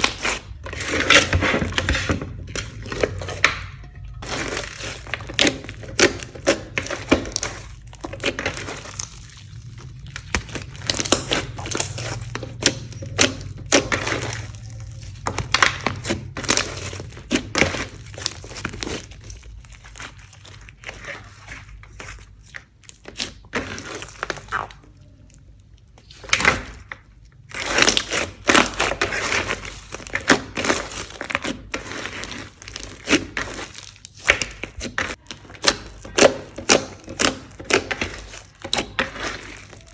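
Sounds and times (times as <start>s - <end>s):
slime squelching and popping: 0.0s - 39.9s.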